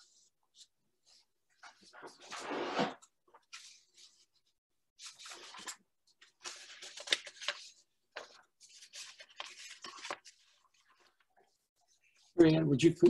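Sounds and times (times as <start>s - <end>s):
paper rustling and scratching: 0.0s - 12.5s.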